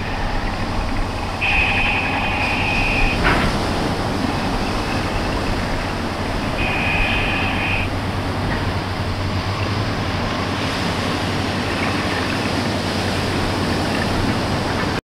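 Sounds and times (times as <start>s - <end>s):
engine drone: 0.0s - 15.0s
waves washing on beach: 0.0s - 15.0s.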